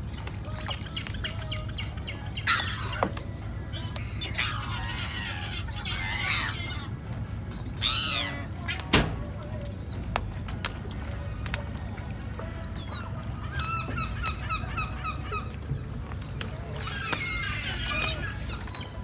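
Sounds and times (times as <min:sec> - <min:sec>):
seagulls squawking: 0:00.0 - 0:19.0
steady low rumble: 0:00.0 - 0:19.0.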